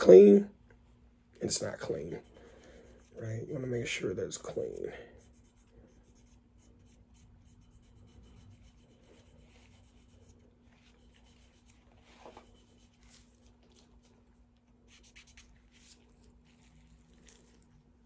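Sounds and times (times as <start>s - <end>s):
steady low hum: 0.0s - 18.0s
cotton swab scratching metal: 1.8s - 14.2s, 14.9s - 17.6s.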